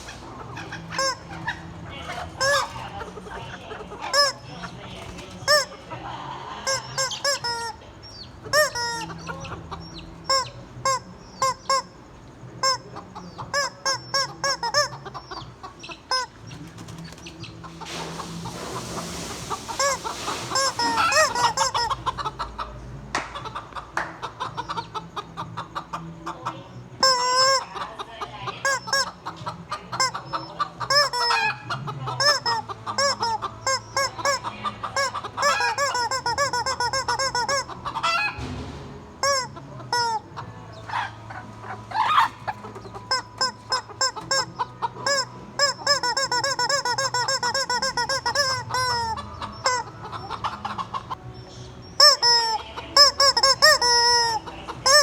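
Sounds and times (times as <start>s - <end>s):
squeaky rubber chicken toy: 0.0s - 4.7s, 5.4s - 5.8s, 6.5s - 16.5s, 19.8s - 22.5s, 24.4s - 38.6s, 39.2s - 51.2s, 51.9s - 55.0s
chickens clucking: 0.0s - 55.0s.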